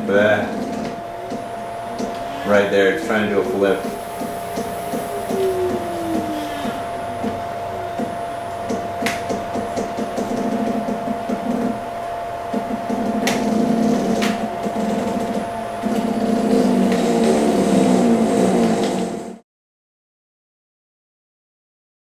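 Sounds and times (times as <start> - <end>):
stepper motors whirring: 0.0 - 11.9, 12.5 - 19.4
steady hum: 0.0 - 19.4.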